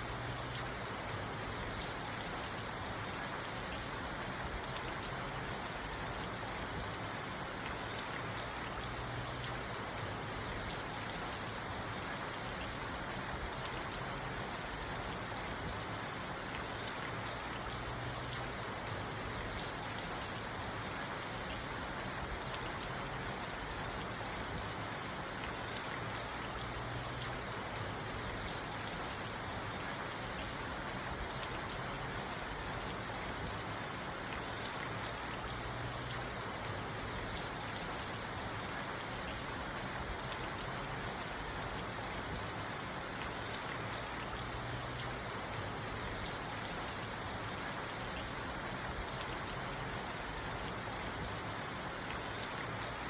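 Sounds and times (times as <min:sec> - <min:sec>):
rain pattering on car: 0:00.0 - 0:53.0.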